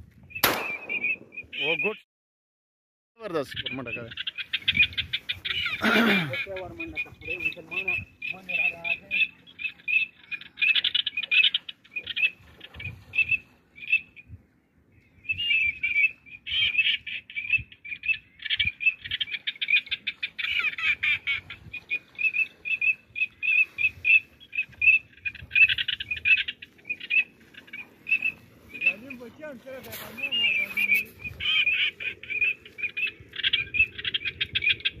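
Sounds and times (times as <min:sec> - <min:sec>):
small birds chirping: 0:00.2 - 0:02.0, 0:03.2 - 0:35.0.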